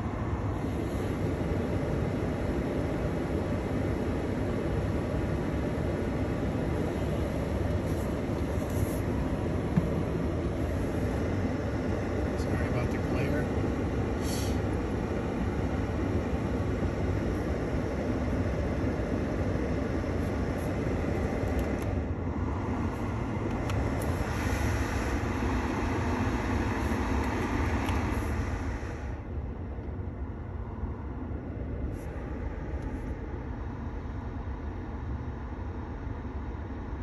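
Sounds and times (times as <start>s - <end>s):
blower fan air rush: 0.0s - 37.0s.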